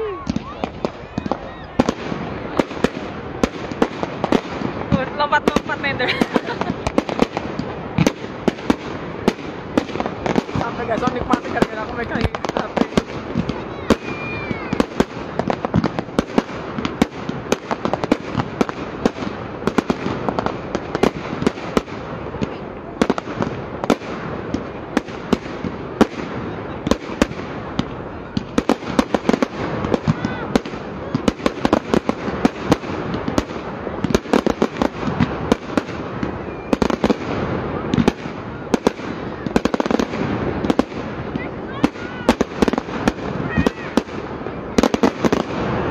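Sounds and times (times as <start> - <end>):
fireworks banging: 0.0 - 45.9
fireworks crackling: 0.0 - 45.9.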